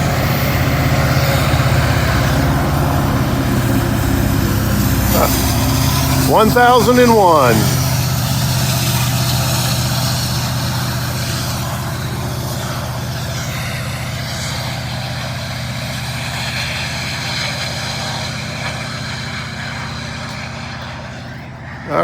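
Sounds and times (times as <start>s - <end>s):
diesel locomotive engine droning: 0.0s - 22.0s
train rolling noise: 0.0s - 22.0s.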